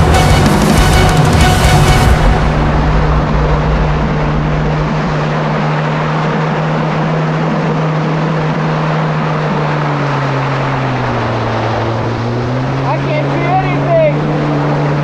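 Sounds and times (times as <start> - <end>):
constant rushing noise: 0.0 - 15.0
jet ski engine running: 0.0 - 15.0.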